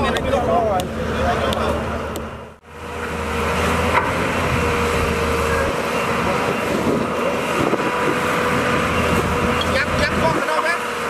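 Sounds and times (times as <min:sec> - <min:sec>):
excavator engine droning: 0:00.0 - 0:11.0.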